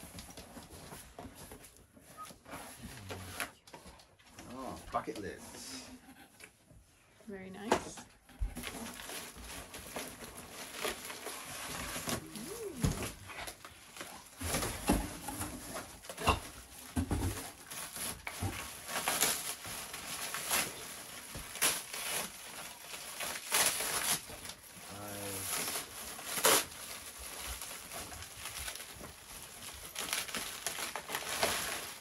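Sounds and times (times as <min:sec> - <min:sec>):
packing paper and cardboard rustling: 0:00.0 - 0:05.6, 0:08.4 - 0:32.0.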